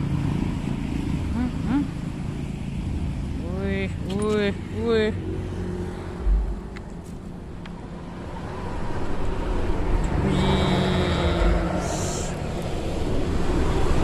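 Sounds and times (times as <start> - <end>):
vehicle rumbling over bridge: 0.0 - 14.0.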